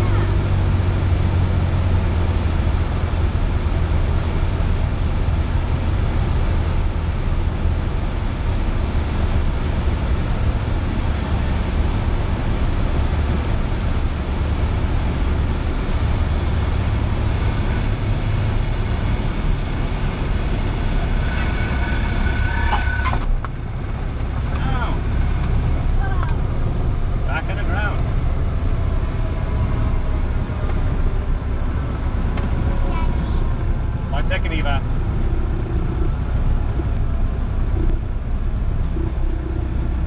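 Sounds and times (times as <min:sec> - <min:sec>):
airplane engine and propeller droning: 0:00.0 - 0:40.0.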